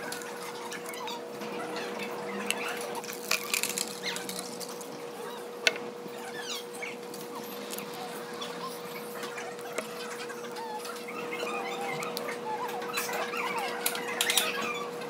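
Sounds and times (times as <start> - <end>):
steady hum: 0.0 - 12.8.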